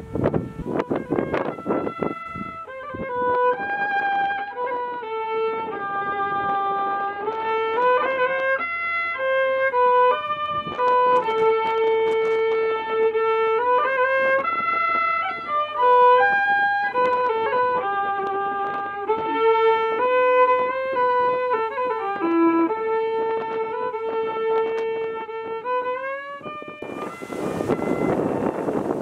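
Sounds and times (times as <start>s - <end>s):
slow fiddle melody: 0.0s - 29.0s.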